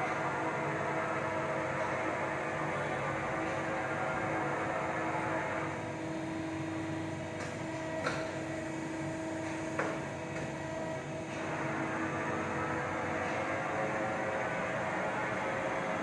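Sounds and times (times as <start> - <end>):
machine hum with tones: 0.0 - 16.0.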